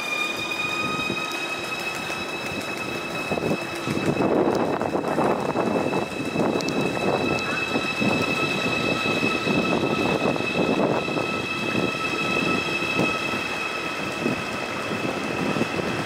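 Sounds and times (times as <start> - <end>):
steady high whine: 0.0 - 16.0
train wheels knocking on rails: 0.0 - 16.0.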